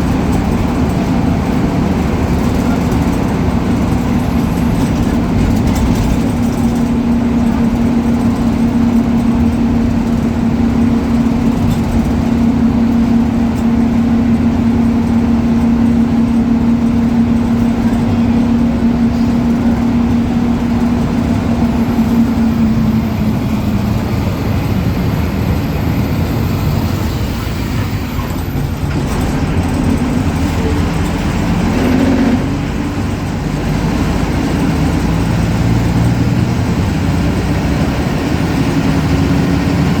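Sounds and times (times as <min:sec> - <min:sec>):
bus diesel engine droning: 0:00.0 - 0:40.0.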